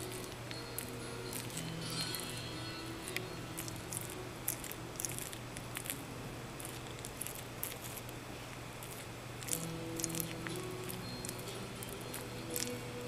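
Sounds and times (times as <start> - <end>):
lizard chewing leafy greens: 0.0 - 13.0.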